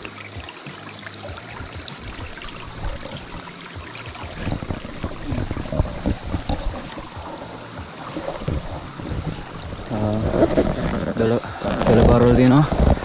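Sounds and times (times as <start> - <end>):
stream water over rocks: 0.0 - 13.0
low thumps: 1.3 - 13.0.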